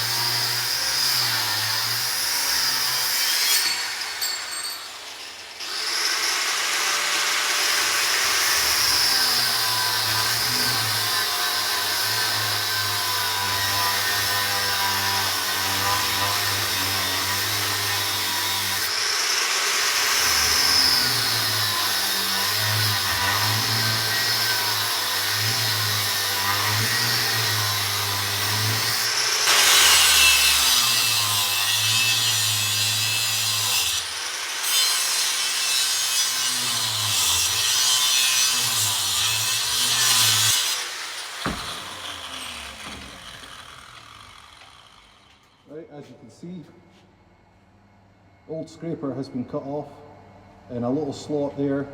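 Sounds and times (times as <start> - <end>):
angle grinder cutting metal: 0.0 - 45.7.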